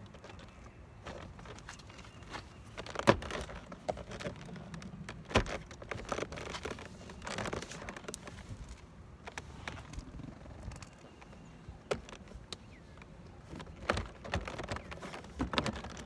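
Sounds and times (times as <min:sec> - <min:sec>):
plastic rustling and scraping: 0:00.0 - 0:16.0.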